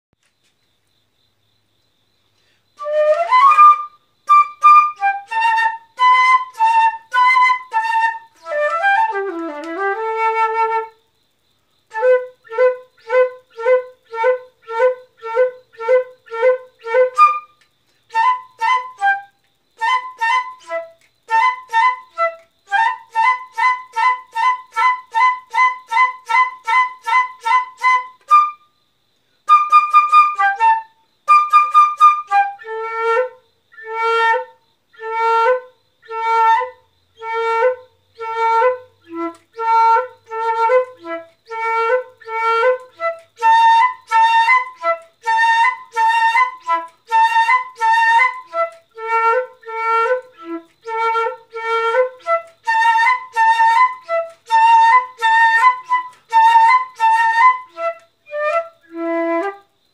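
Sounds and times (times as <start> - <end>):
solo flute melody: 2.8 - 11.1, 11.9 - 28.8, 29.4 - 59.8.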